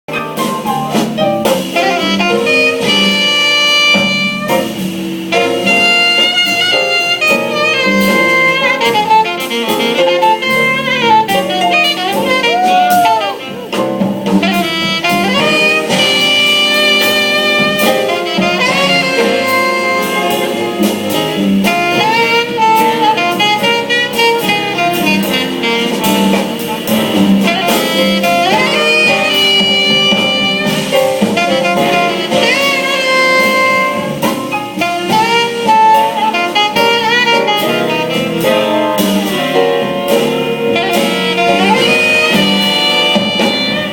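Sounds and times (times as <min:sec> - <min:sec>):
band with drum kit: 0:00.1 - 0:43.9
jazz saxophone solo: 0:00.1 - 0:43.9.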